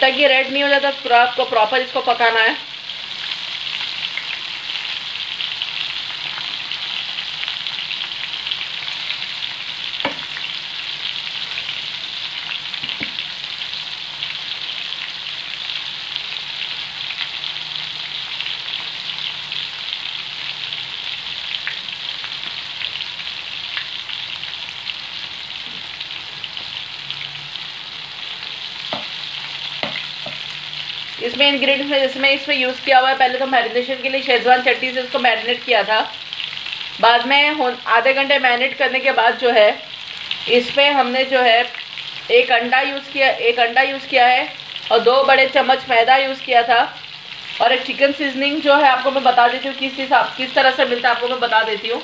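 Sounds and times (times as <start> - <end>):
prawns deep-frying in oil: 0.0 - 52.0.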